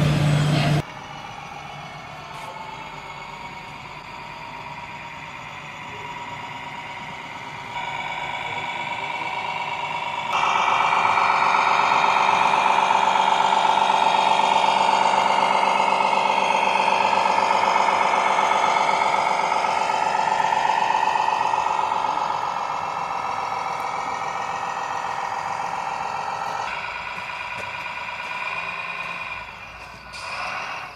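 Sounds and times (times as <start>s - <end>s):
model truck engine drone with whine: 0.0s - 30.9s.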